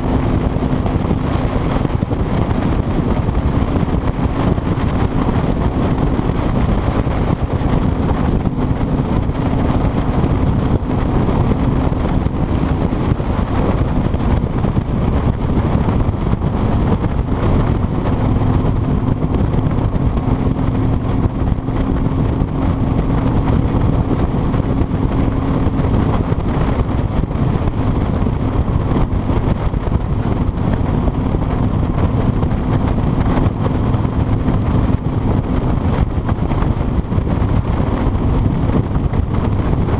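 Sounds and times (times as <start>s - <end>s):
motorcycle engine running: 0.0s - 39.9s
road noise: 0.0s - 39.9s
wind rushing over microphone: 0.0s - 39.9s.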